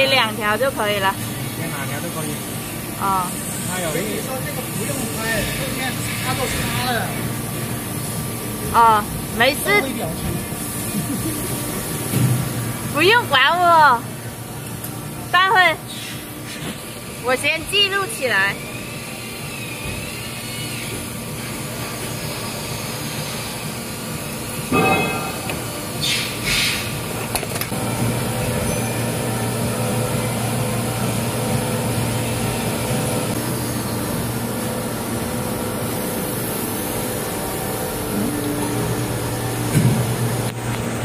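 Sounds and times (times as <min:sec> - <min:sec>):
factory machinery hum: 0:00.0 - 0:41.0.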